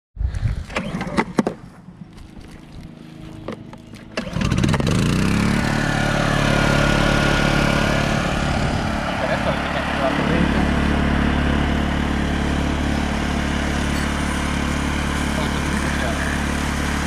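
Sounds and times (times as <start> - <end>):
portable generator running: 0.6 - 17.0.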